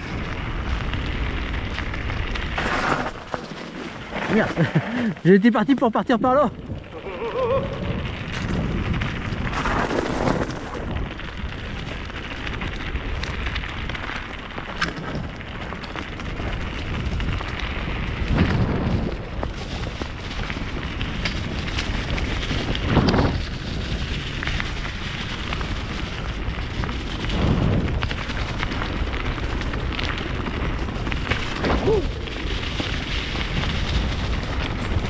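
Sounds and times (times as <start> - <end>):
wind rushing over microphone: 0.0 - 3.2, 5.9 - 35.0
bike clicks and rattles: 0.0 - 35.0.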